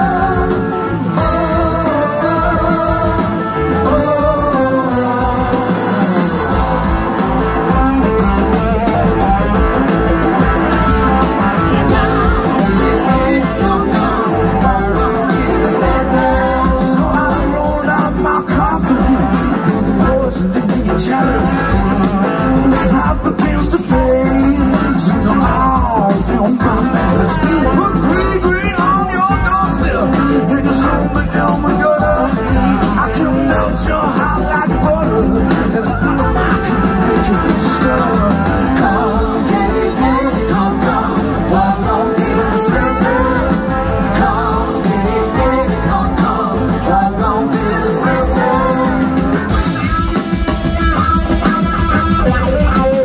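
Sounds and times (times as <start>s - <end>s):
gliding lead melody: 0.0s - 53.0s
live blues-rock band: 0.0s - 53.0s.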